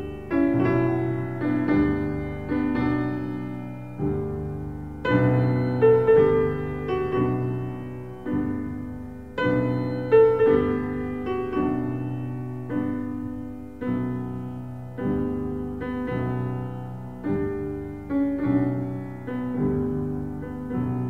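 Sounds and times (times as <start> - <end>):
slow solo piano chords: 0.0 - 21.0.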